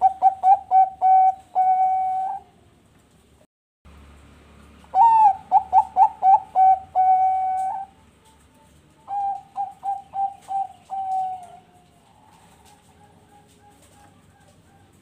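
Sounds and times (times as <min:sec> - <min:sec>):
dove cooing: 0:00.0 - 0:02.6, 0:04.9 - 0:15.0.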